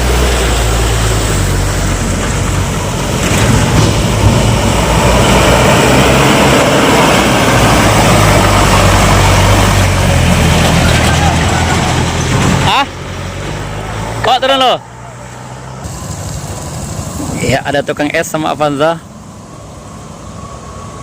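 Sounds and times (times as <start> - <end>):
vehicle engine under throttle: 0.0 - 14.3, 14.9 - 17.8
road noise on rough road: 0.0 - 21.0.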